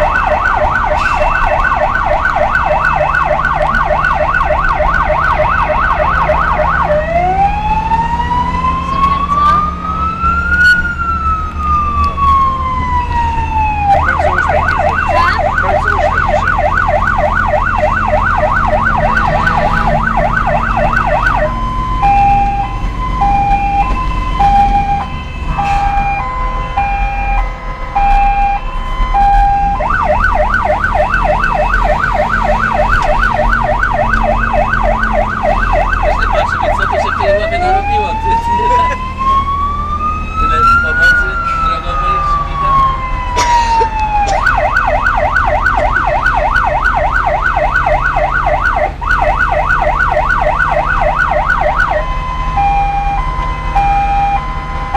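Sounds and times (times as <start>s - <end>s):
electronic emergency siren: 0.0s - 54.9s
low vehicle engine drone: 0.0s - 54.9s.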